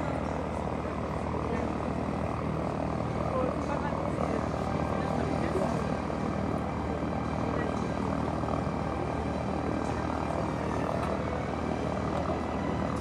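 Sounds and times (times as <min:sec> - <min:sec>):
propeller aircraft droning overhead: 0:00.0 - 0:13.0.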